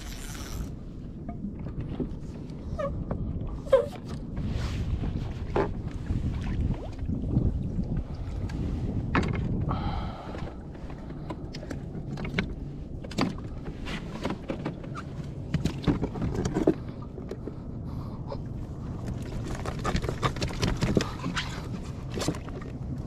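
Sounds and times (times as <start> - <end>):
rumble of wind and water: 0.0 - 23.0.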